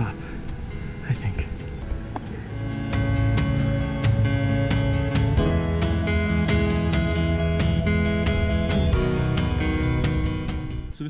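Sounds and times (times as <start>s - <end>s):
strummed guitar over a beat: 0.5s - 10.9s.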